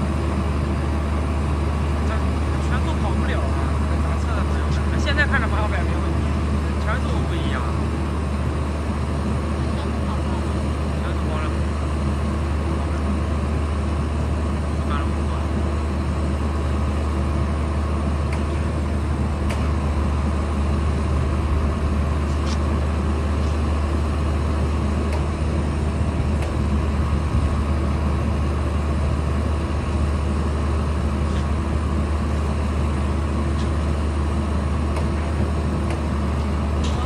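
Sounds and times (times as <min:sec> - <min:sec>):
crane drive unit droning: 0:00.0 - 0:37.0.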